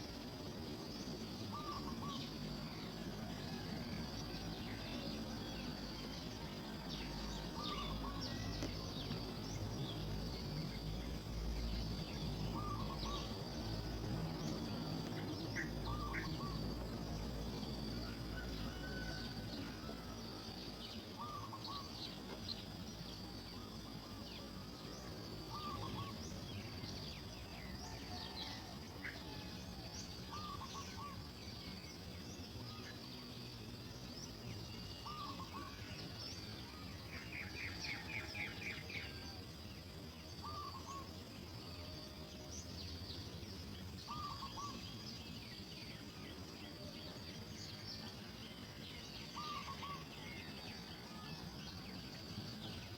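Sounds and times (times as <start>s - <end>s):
high-pitched insect whine: 0.0s - 52.9s.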